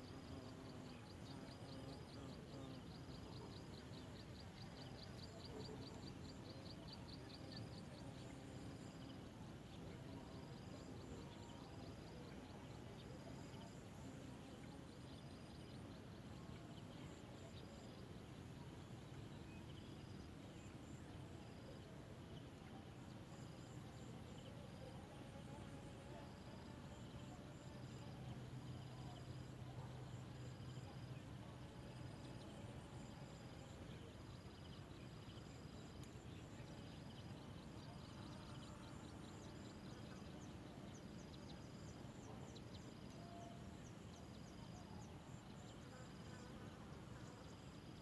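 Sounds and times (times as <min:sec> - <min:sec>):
insects chirping trills: 0:00.0 - 0:48.0
steady low hiss: 0:00.0 - 0:48.0.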